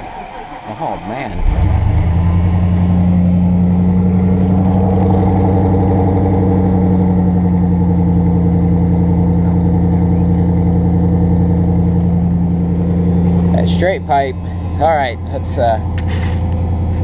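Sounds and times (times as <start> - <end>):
loud truck engine idling: 0.0 - 17.0.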